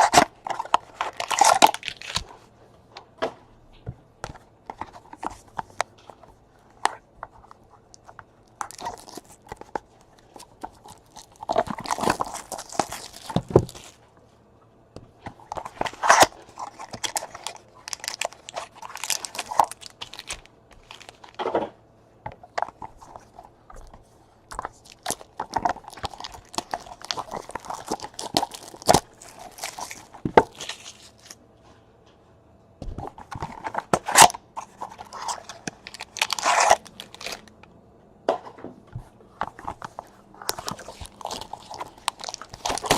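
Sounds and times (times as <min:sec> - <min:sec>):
card packaging rustling and tearing: 0:00.0 - 0:02.4, 0:04.7 - 0:14.0, 0:15.3 - 0:21.6, 0:22.5 - 0:31.4, 0:33.0 - 0:37.5, 0:39.4 - 0:42.9.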